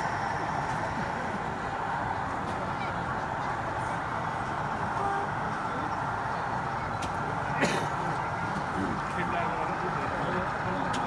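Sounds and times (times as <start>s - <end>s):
busy exhibition hall noise: 0.0s - 11.0s.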